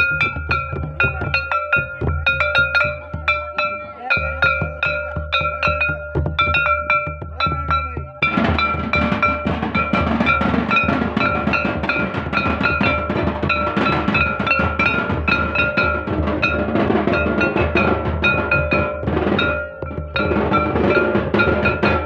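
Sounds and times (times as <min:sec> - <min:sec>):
barrel drum beaten fast: 0:00.0 - 0:22.0
ringing bell-like tone: 0:00.0 - 0:22.0.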